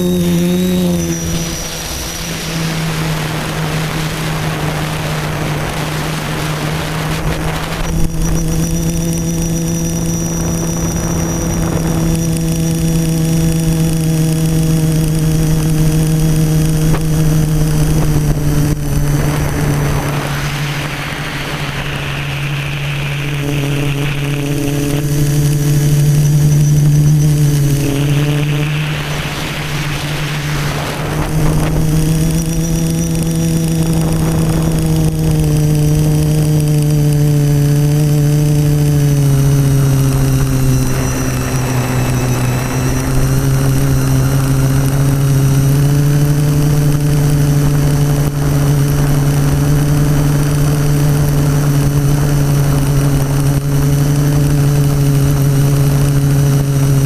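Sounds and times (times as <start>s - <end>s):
quadcopter motor hum: 0.0s - 57.0s
wind rushing over microphone: 0.0s - 57.0s.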